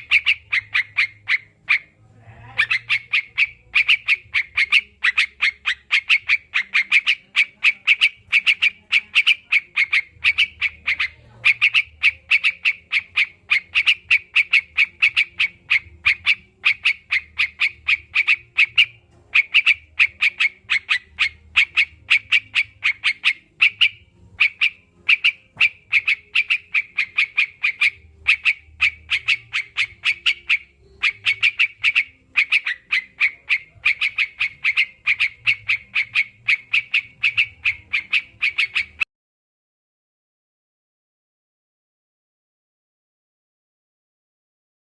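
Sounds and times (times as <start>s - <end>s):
bird chattering calls: 0.0s - 39.0s.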